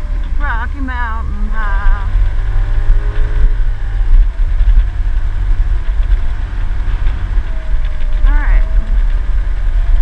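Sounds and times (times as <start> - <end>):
low rumble of wind and road: 0.0 - 10.0
scooter engine running: 0.0 - 10.0.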